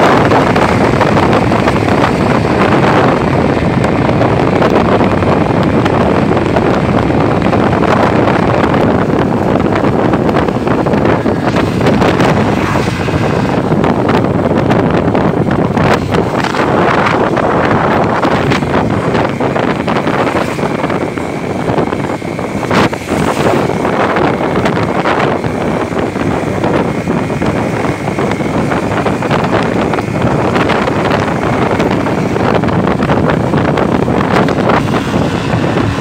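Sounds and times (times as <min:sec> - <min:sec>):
motorcycle engine and tyres: 0:00.0 - 0:36.0
wind buffeting the microphone: 0:00.0 - 0:36.0.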